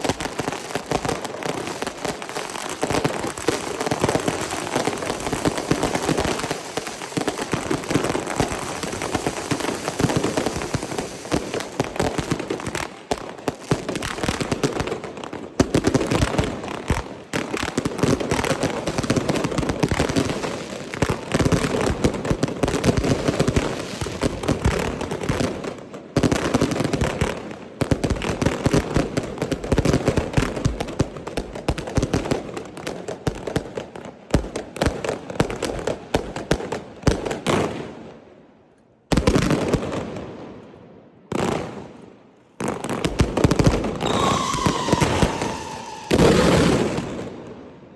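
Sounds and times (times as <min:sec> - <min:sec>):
fireworks crackling and popping: 0:00.0 - 0:37.9, 0:41.3 - 0:47.8.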